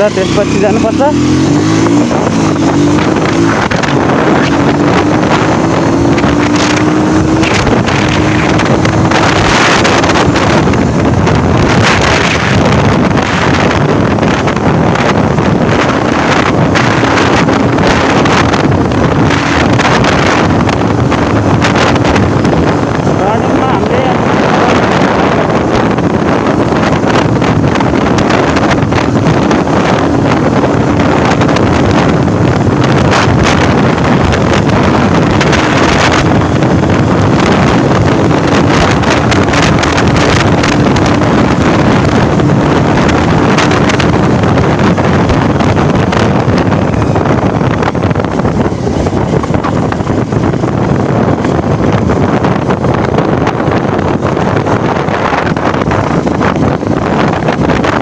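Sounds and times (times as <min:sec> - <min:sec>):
motorcycle engine hum: 0:00.0 - 0:58.0
wind rush over microphone: 0:00.0 - 0:58.0.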